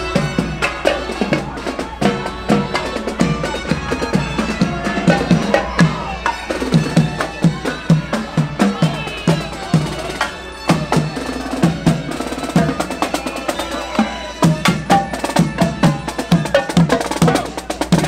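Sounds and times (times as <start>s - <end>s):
marching snare drums: 0.0s - 18.0s
upbeat parade music: 0.0s - 18.0s.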